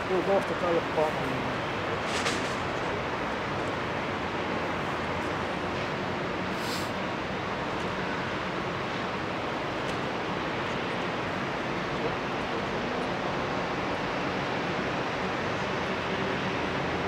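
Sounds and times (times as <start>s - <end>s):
distant jet engine roar: 0.0s - 17.0s.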